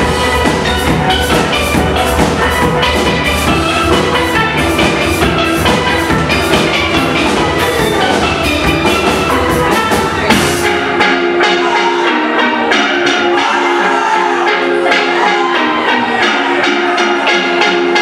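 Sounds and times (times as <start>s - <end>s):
steel drum band playing: 0.0s - 18.0s.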